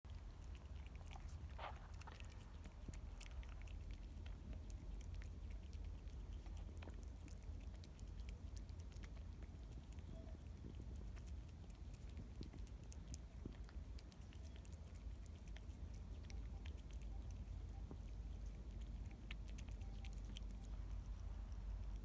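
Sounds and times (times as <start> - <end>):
animals moving and eating: 0.1 - 22.0
steady low rumble: 0.1 - 22.0.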